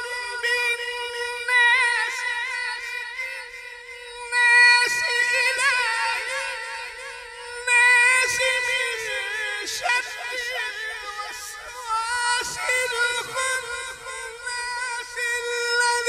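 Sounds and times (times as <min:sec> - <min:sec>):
person reciting melodically: 0:00.0 - 0:16.0.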